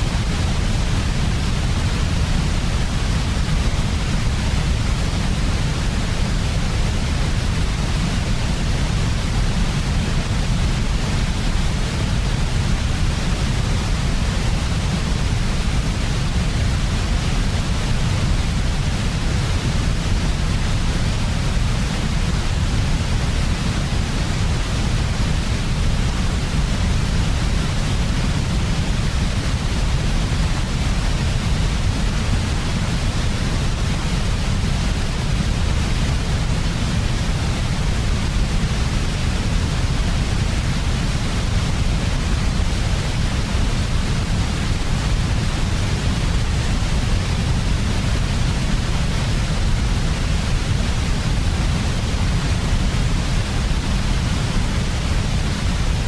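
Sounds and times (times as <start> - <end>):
white noise hiss with low rumble: 0.0 - 56.0.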